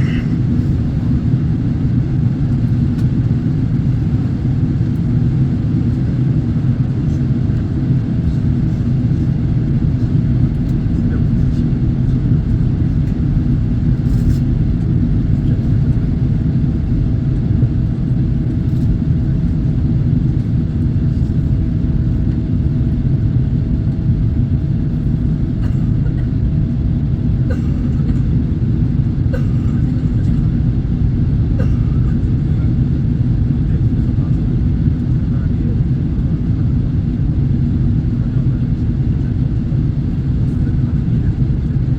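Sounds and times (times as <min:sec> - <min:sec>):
airliner engine and airflow rumble: 0:00.0 - 0:41.9.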